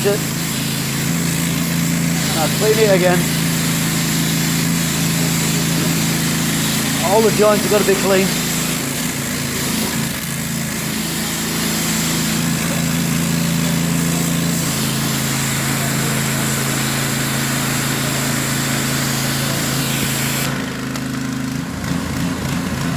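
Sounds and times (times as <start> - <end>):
water jet hissing: 0.0 - 20.9.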